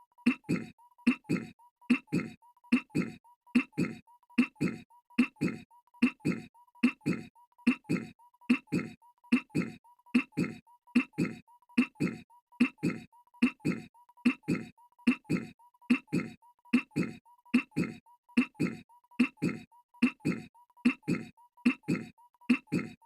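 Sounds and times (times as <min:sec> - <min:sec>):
cartoon voice clearing throat: 0:00.2 - 0:23.0.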